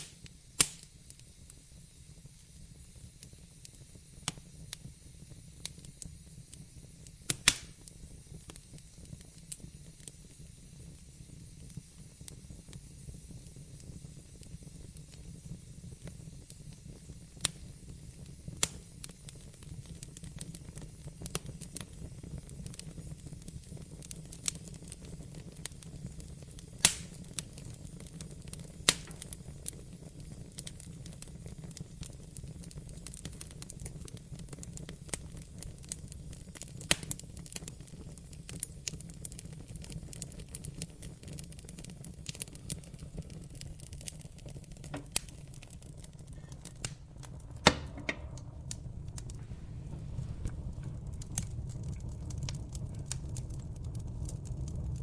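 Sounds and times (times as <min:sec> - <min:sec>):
sharp pops of fire: 0:00.0 - 0:55.0
wood fire crackling: 0:00.0 - 0:55.0.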